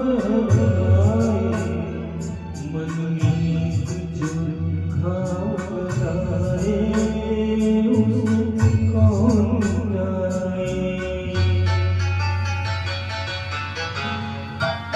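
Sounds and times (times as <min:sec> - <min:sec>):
man singing with vibrato: 0:00.0 - 0:12.7
backing track with bass and percussion: 0:00.0 - 0:14.9.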